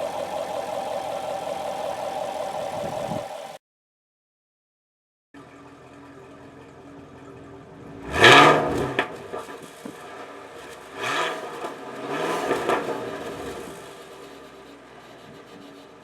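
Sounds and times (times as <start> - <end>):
car engine idling and revving: 0.0 - 3.6, 5.4 - 16.0.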